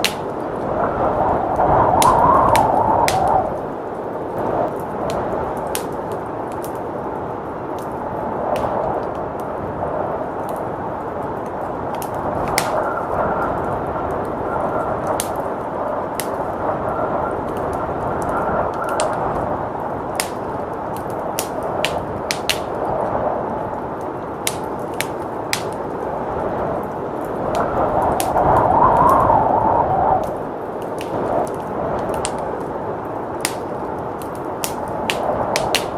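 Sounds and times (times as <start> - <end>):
blizzard wind: 0.0 - 35.9
wood fire crackling: 0.0 - 35.9.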